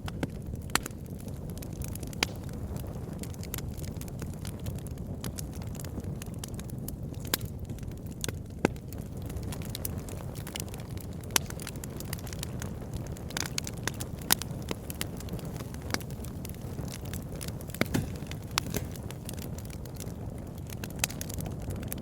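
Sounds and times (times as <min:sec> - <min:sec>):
burning wood crackling and popping: 0:00.0 - 0:22.0
campfire flames rumbling: 0:00.0 - 0:22.0.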